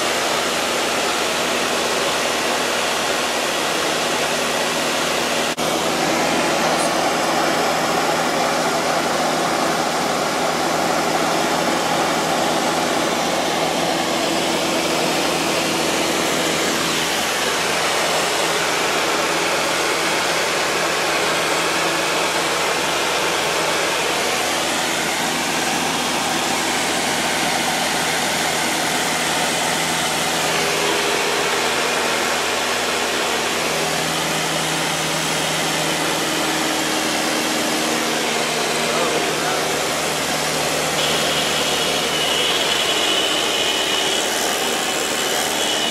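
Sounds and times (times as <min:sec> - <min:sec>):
airplane engine drone: 0:00.0 - 0:45.9.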